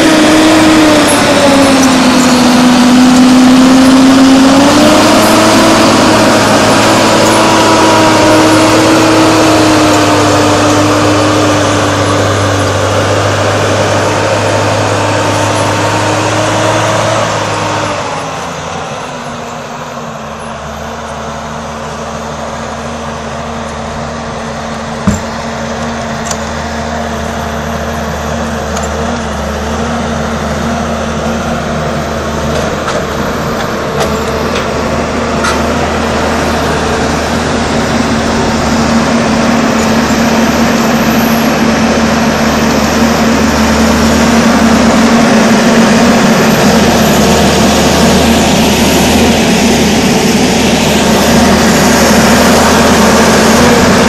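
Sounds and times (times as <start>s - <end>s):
forestry machine engine running: 0.0s - 54.0s.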